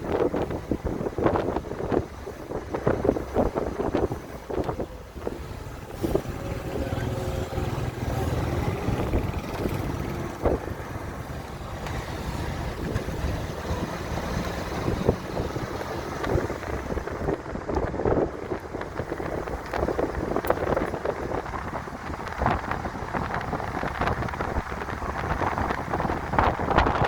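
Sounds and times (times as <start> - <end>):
vehicle road and engine noise: 0.0 - 27.0
wind on microphone: 0.0 - 27.0.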